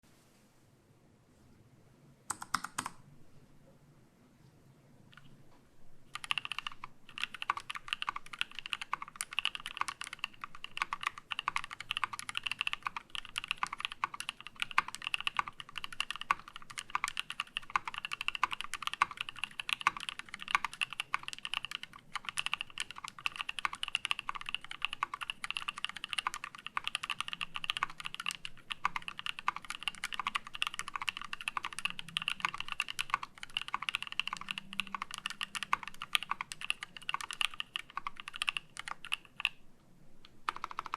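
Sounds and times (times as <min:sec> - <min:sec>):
mechanical keyboard typing: 0:02.3 - 0:03.0, 0:06.1 - 0:39.6, 0:40.4 - 0:40.9.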